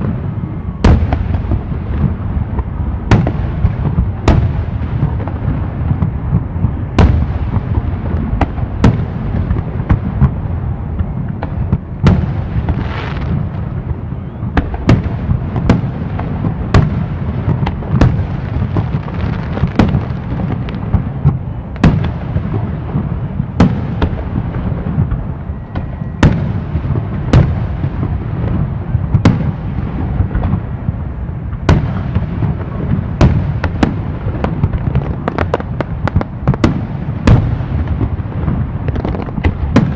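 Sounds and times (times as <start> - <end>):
hissing crackle of fireworks: 0.0 - 39.9
low rumble of explosions: 0.0 - 39.9.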